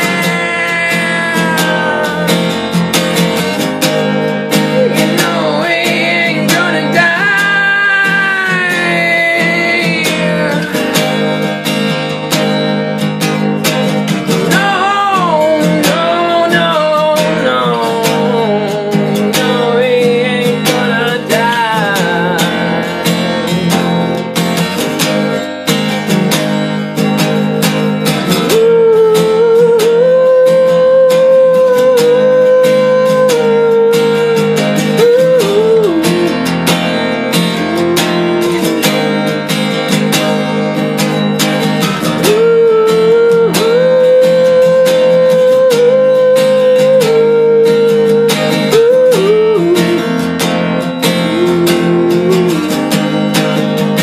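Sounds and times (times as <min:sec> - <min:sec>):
man singing wordless melody: 0:00.0 - 0:11.9, 0:14.1 - 0:24.3, 0:27.3 - 0:39.7, 0:41.9 - 0:54.0
acoustic guitar strumming: 0:00.0 - 0:54.0.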